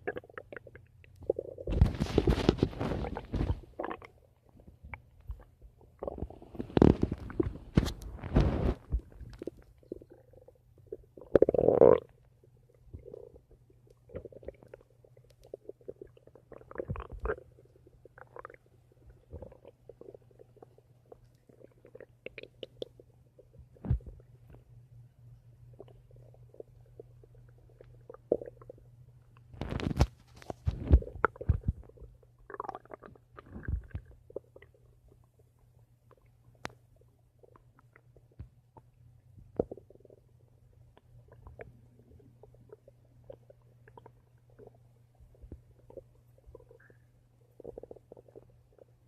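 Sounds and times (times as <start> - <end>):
stomach rumbling and gurgling: 0.0 - 49.0.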